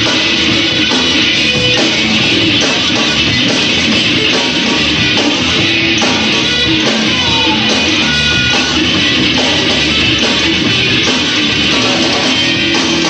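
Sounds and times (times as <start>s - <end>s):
heavy rock band playing live: 0.0s - 13.0s.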